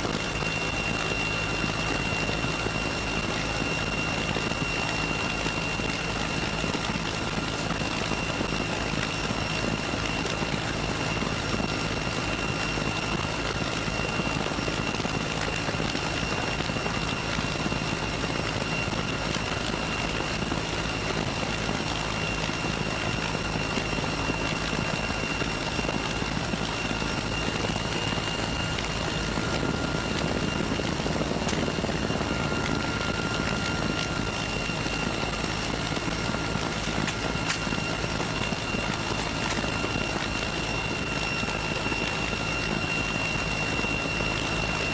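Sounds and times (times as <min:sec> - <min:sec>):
engine and rotor rumble: 0:00.0 - 0:44.9
helicopter turbine whine: 0:00.0 - 0:44.9.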